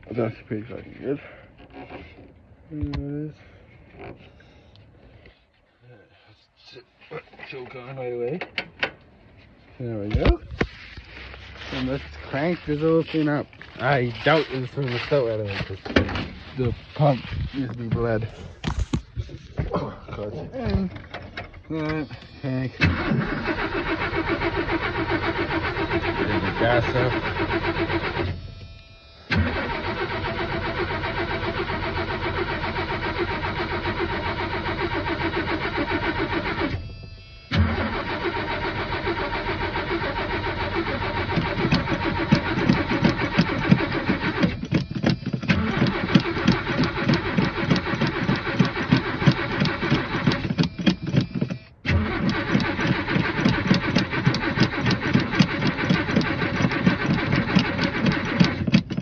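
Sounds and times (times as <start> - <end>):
truck engine cranking: 9.9 - 59.0.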